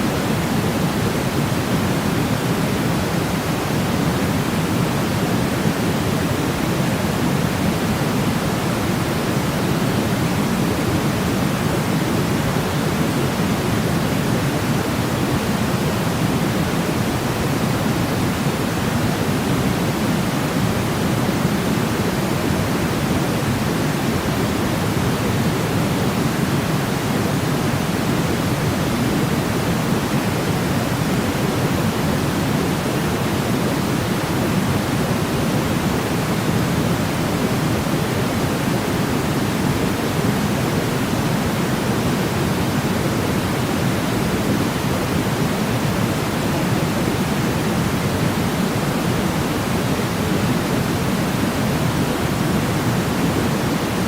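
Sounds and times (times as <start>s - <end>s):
low steady noise hiss: 0.0s - 54.0s.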